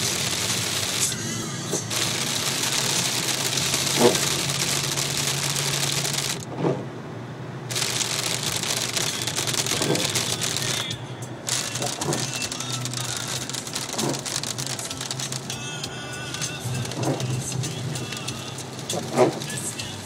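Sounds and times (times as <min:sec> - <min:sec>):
hard rain falling: 0:00.0 - 0:06.5, 0:07.7 - 0:20.0.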